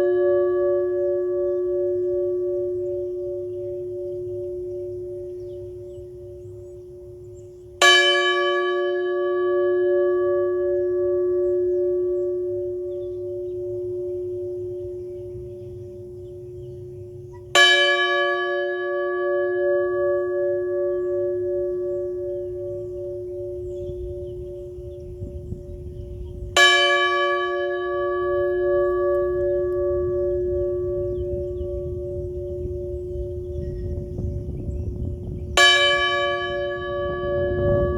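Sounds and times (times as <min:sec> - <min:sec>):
low wavering bell hum: 0:00.0 - 0:37.9.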